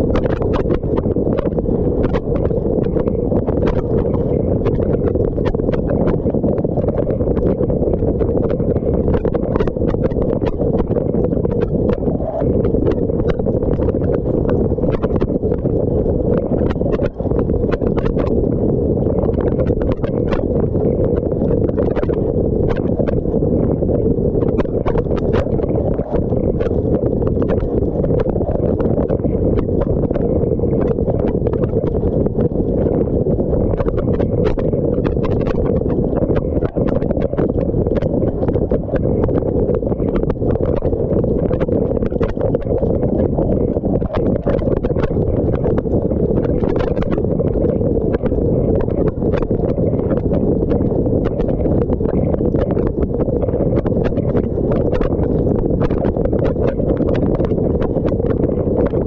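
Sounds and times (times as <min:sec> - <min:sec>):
water ticking and tapping: 0:00.1 - 0:59.0.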